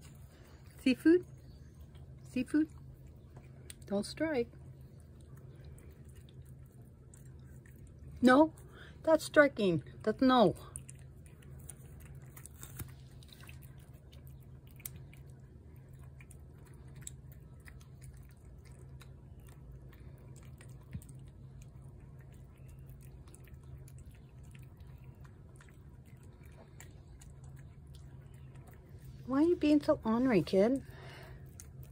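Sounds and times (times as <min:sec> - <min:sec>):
cat chewing food: 0:00.0 - 0:09.0, 0:09.8 - 0:30.0, 0:30.8 - 0:31.9
low steady hum: 0:00.0 - 0:31.9.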